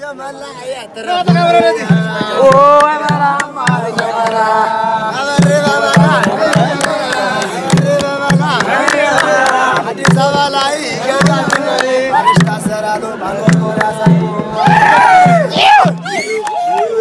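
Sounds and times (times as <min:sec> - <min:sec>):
group of young men singing: 0:00.0 - 0:16.3
hand drum beat: 0:01.2 - 0:04.5, 0:05.1 - 0:16.4.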